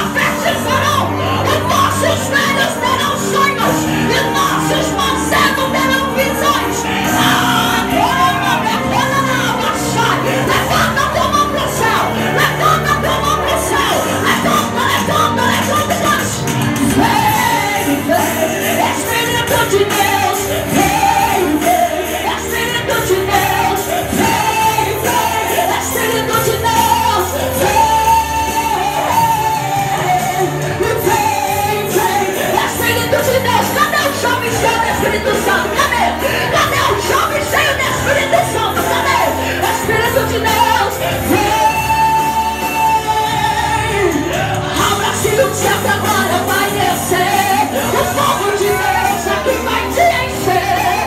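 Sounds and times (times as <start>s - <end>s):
backing music with bass line: 0.0s - 51.0s
band playing: 0.0s - 51.0s
woman singing into a microphone: 0.0s - 51.0s.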